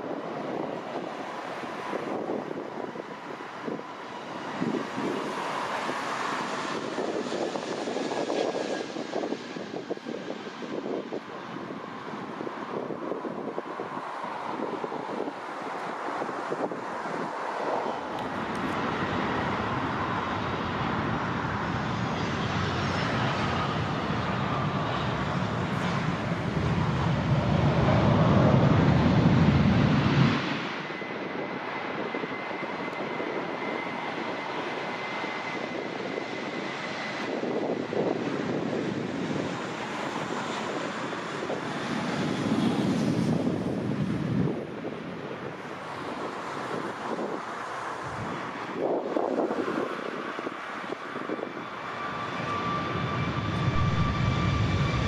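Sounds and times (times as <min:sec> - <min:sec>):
jet airliner engines roaring: 0:00.0 - 0:55.0
jet engine high whine: 0:00.0 - 0:55.0.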